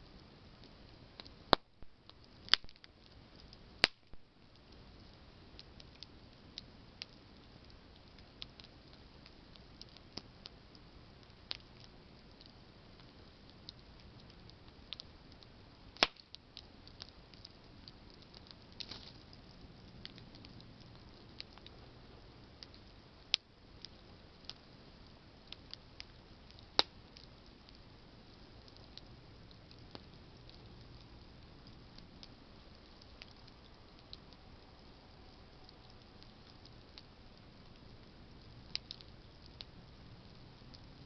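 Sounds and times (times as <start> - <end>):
campfire crackling: 0.0 - 41.0.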